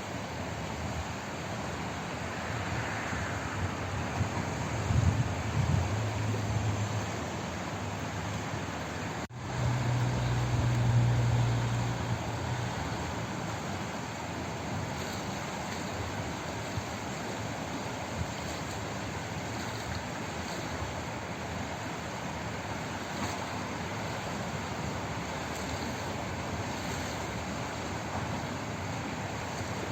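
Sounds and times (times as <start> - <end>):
flowing water rushing: 0.0 - 29.9.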